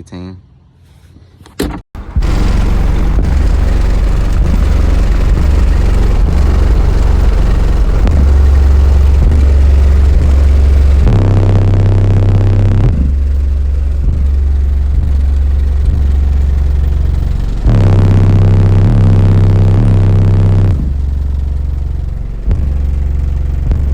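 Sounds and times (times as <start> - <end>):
bass-heavy music from subwoofers: 2.0 - 23.9.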